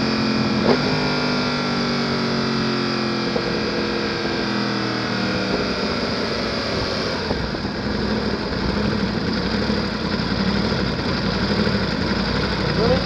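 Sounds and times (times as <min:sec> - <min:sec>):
motorcycle engine decelerating: 0:00.0 - 0:13.0.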